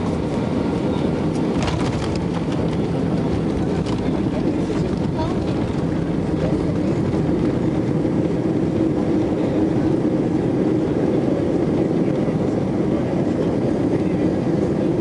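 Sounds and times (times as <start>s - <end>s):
airliner engine and airflow rumble: 0.0s - 15.0s
constant low hum: 0.0s - 15.0s.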